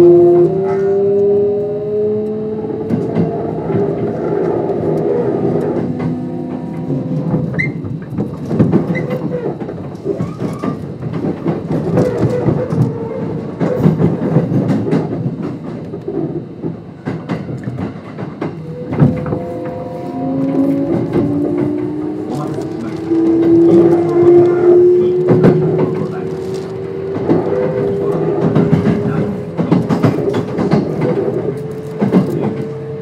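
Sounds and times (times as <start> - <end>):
rising inverter whine: 0.0 - 11.2, 15.1 - 33.0
train wheels rumbling on rails: 0.0 - 33.0.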